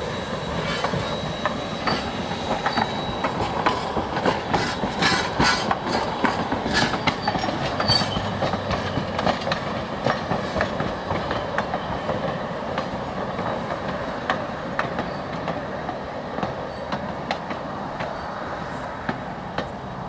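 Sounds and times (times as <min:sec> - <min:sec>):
rolling train rumble: 0:00.0 - 0:20.0
train wheels clanking over rail joints: 0:00.4 - 0:19.8.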